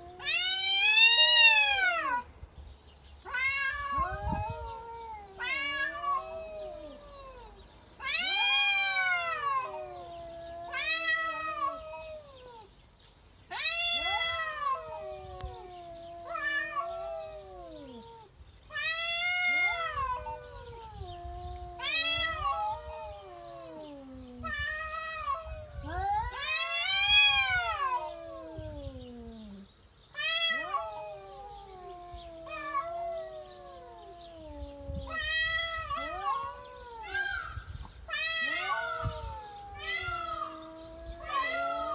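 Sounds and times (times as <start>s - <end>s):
cats yowling: 0.0s - 2.3s, 3.2s - 12.7s, 13.5s - 41.9s.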